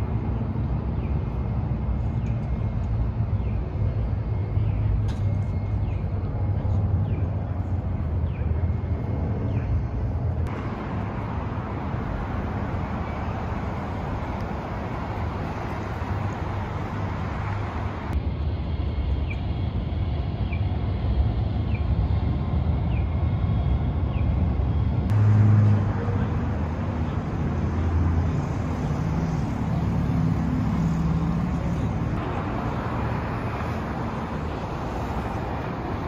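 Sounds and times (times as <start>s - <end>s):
city traffic rumble: 0.0s - 36.0s
hiss of passing traffic: 0.0s - 36.0s.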